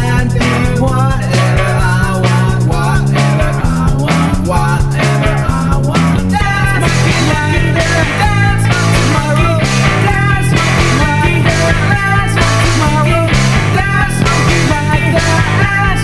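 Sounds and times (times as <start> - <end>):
rock song with electric guitar: 0.0 - 16.0.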